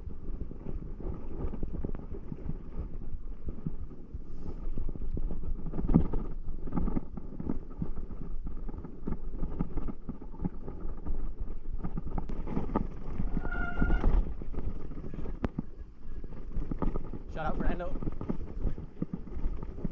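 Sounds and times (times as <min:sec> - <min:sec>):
wind on microphone: 0:00.0 - 0:19.9
footsteps on trail: 0:00.1 - 0:19.9.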